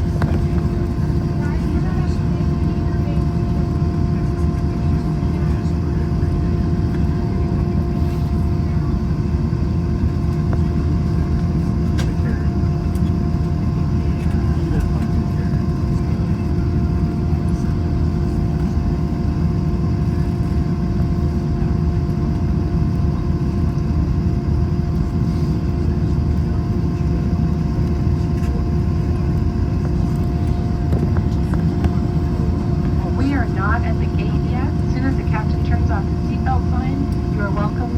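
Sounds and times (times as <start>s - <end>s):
airplane cabin rumble and hum: 0.0s - 37.9s.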